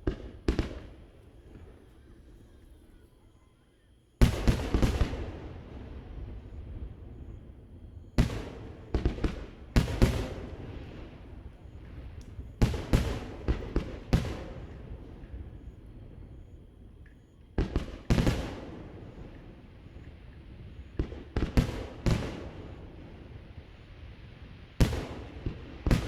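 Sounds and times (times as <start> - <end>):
fireworks bangs with rolling echo: 0.0 - 2.4, 4.2 - 26.0.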